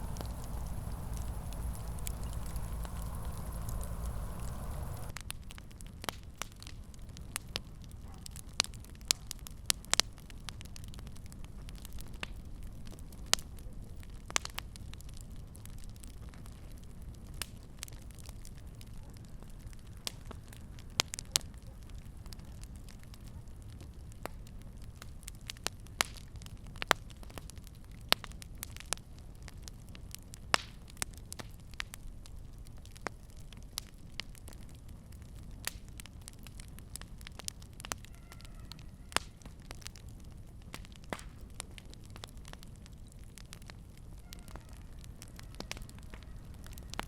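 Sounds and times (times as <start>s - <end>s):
fire crackling and popping: 0.0s - 47.0s
low rumble of flames: 0.0s - 47.0s.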